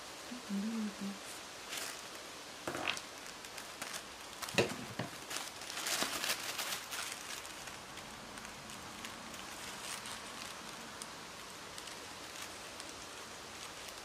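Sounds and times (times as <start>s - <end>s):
tissue paper rustling: 1.2s - 14.0s.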